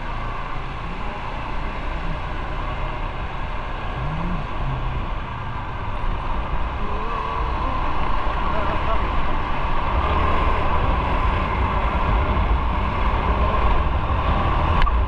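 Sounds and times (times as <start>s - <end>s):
motorcycle engine: 0.0s - 15.0s
road noise: 0.0s - 15.0s.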